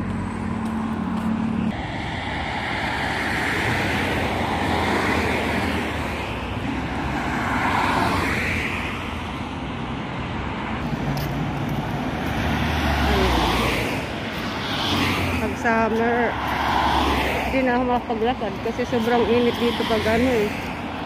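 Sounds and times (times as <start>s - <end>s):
cars driving by: 0.0s - 21.0s.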